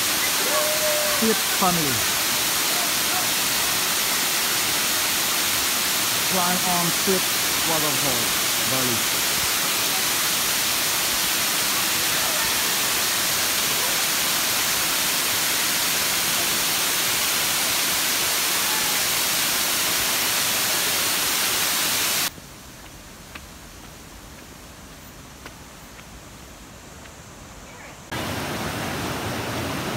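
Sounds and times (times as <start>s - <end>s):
waterfall rushing: 0.0s - 22.3s, 28.1s - 29.9s.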